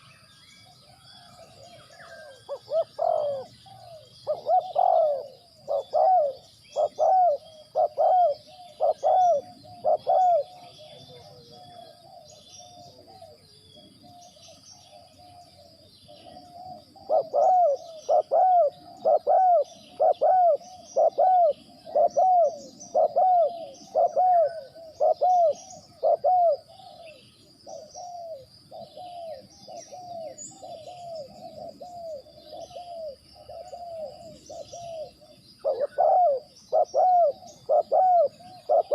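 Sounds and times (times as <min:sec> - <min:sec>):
dove cooing: 0:00.0 - 0:38.9
small birds chirping: 0:00.0 - 0:38.9
steady high insect-like tone: 0:00.0 - 0:38.9.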